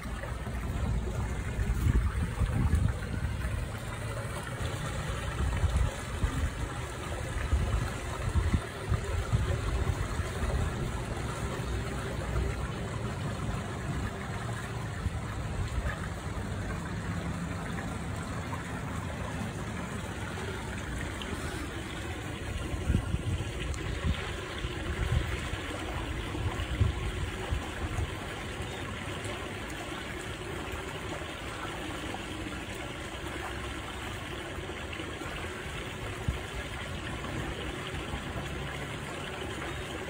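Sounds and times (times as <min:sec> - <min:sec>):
trickling water: 0:00.0 - 0:40.0.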